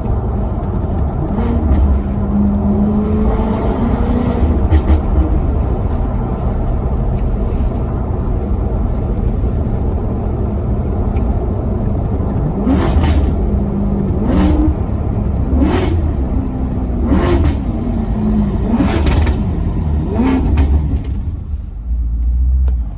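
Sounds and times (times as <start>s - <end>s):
car engine rumbling: 0.0s - 22.9s
engine revving in throttle blips: 0.0s - 22.9s.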